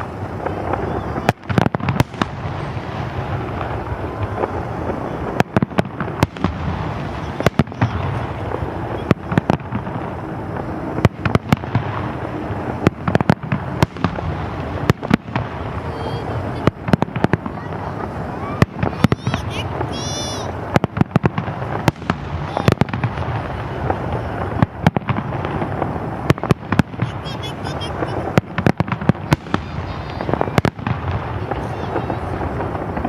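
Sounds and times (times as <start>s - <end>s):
fireworks bangs and crackles: 0.0s - 33.0s
rumbling echoes: 0.0s - 33.0s.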